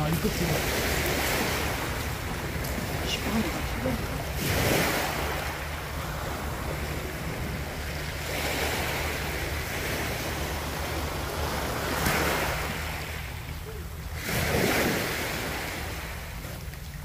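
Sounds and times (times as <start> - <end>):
waves washing on pebble shore: 0.0 - 13.4, 14.2 - 16.5
wind rumbling on microphone: 0.0 - 17.0.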